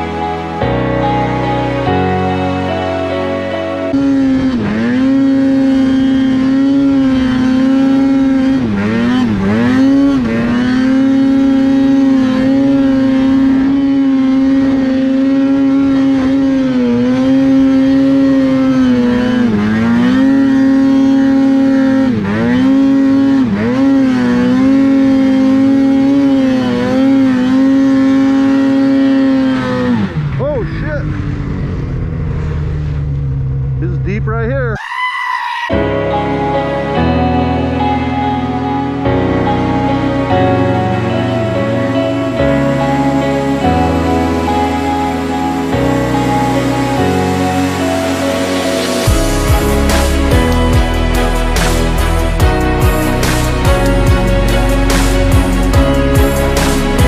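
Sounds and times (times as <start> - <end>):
snowmobile engine at high revs: 0.0 - 57.0.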